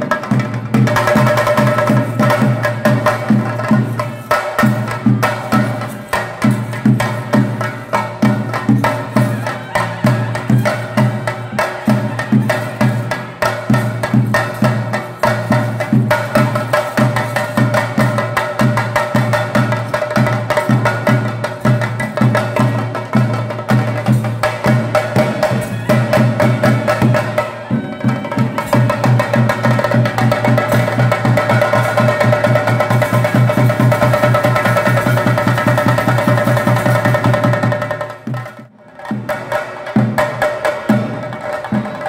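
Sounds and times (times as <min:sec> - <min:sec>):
drums beaten with sticks: 0:00.0 - 0:42.0.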